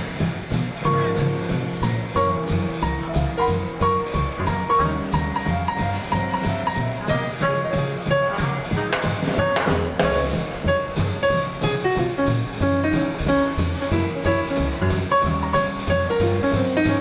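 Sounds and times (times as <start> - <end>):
drums keeping a beat: 0.0 - 17.0
swing band playing: 0.0 - 17.0
walking double bass: 0.0 - 17.0.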